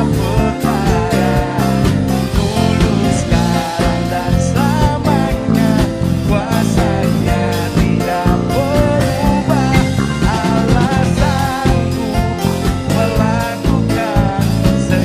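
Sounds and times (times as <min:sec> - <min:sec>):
band playing: 0:00.0 - 0:15.0
person singing: 0:00.0 - 0:15.0.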